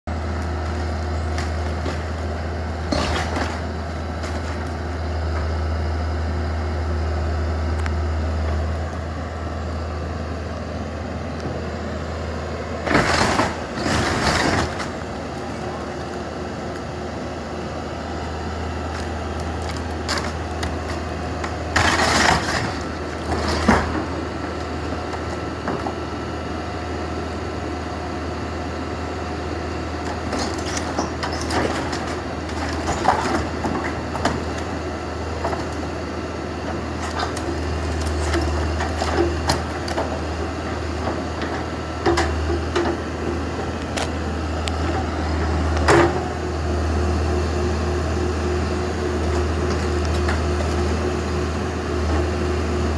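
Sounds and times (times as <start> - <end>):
diesel engine under load: 0.1 - 52.9.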